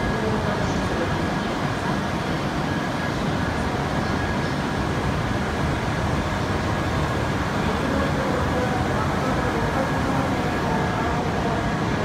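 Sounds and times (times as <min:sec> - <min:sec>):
train platform hum and rumble: 0:00.0 - 0:12.0.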